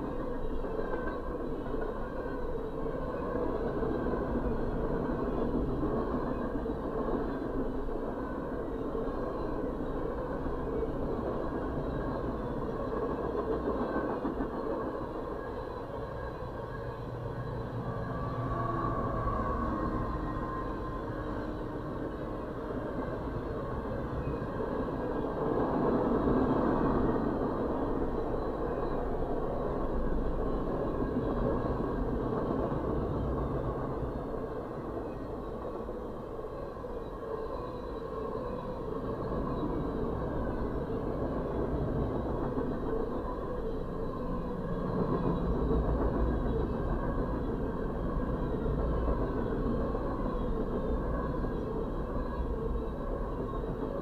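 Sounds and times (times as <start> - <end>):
train wheels on rail: 0.0 - 54.0.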